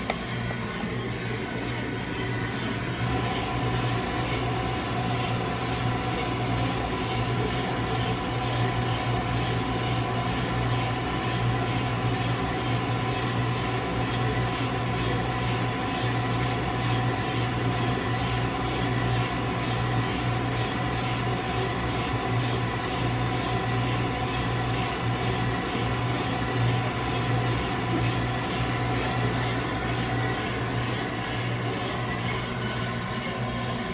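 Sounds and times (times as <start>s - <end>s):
coffee roaster motor hum: 0.0s - 33.9s.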